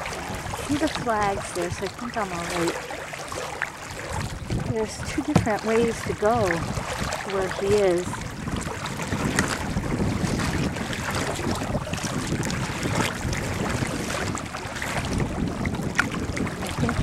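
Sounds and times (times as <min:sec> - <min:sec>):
waves slapping a kayak hull: 0:00.0 - 0:17.0
wind buffeting microphone: 0:00.0 - 0:17.0.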